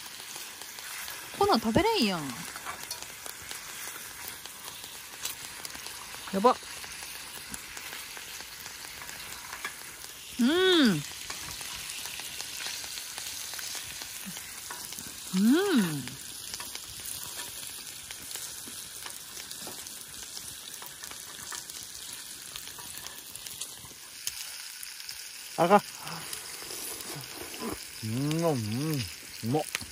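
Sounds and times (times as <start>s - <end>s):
pork frying with a sizzle: 0.0s - 29.9s.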